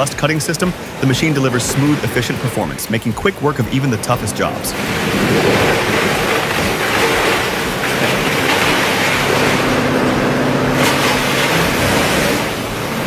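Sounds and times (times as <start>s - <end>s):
wood chipper chewing logs: 0.0s - 13.0s.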